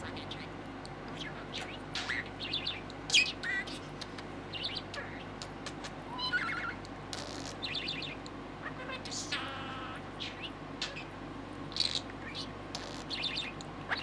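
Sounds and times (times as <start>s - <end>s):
budgerigar chattering and chirping: 1.1s - 11.1s, 11.7s - 14.0s.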